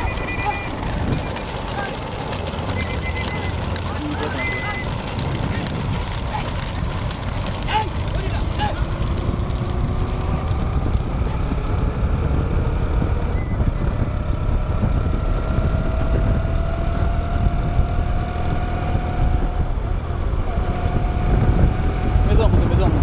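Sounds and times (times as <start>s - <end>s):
vehicle engine accelerating: 0.0s - 23.0s.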